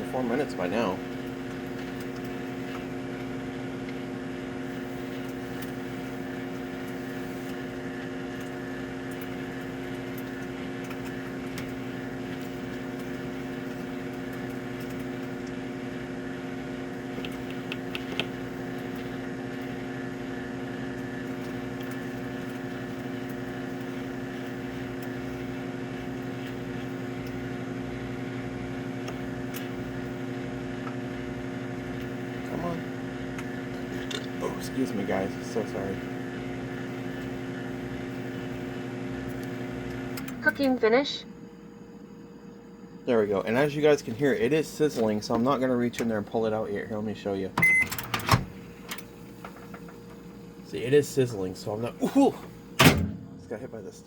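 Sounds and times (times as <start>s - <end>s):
microwave oven hum: 0.0s - 54.0s.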